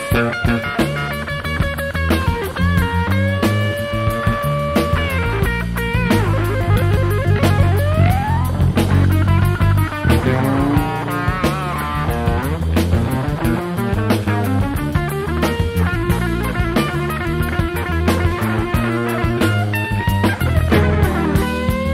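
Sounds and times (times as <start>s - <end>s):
drum kit beat: 0.0s - 21.9s
electric bass groove: 0.0s - 21.9s
electric guitar lead line: 0.0s - 21.9s.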